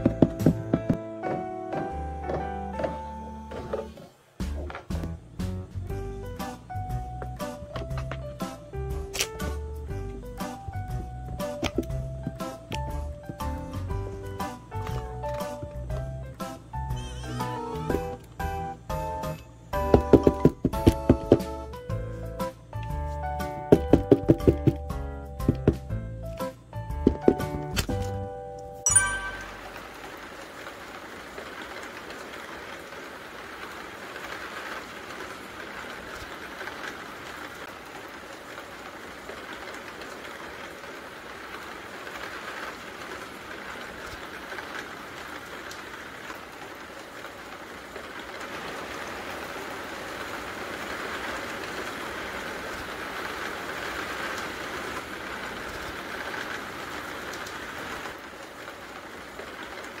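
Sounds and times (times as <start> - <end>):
steady rain: 3.9 - 23.8, 29.2 - 60.0.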